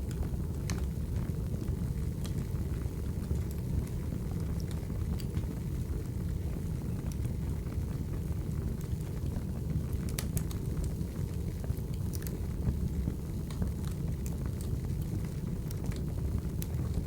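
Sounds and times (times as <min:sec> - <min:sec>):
firewood burning and crackling: 0:00.0 - 0:17.0.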